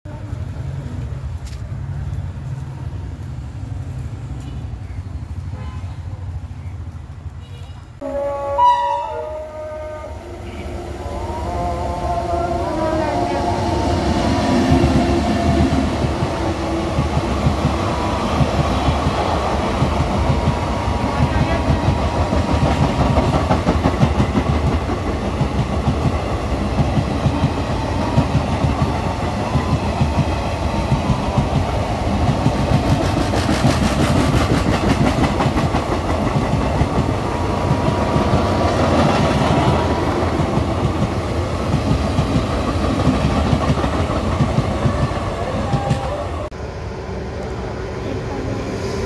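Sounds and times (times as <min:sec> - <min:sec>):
train rumble: 0:08.0 - 0:49.0.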